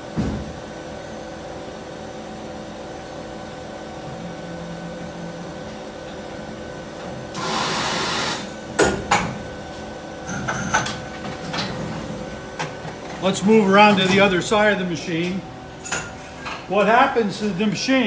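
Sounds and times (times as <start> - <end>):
machine humming: 0.8 - 18.0.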